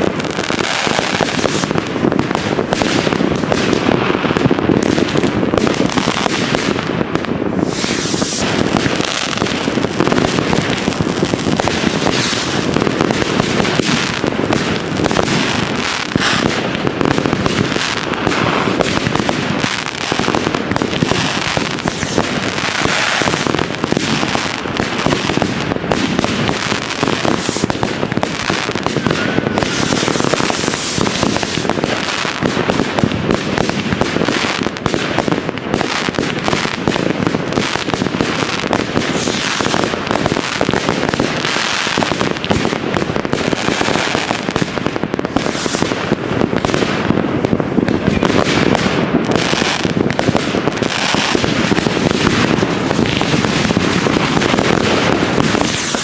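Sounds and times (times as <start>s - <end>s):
fireworks popping and crackling: 0.0s - 56.0s.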